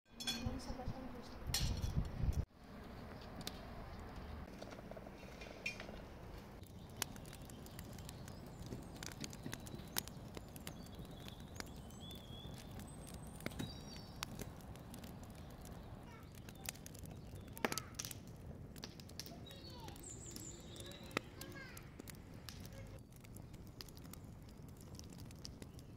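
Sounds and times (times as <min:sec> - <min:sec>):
twig fire crackling: 0:01.8 - 0:25.9.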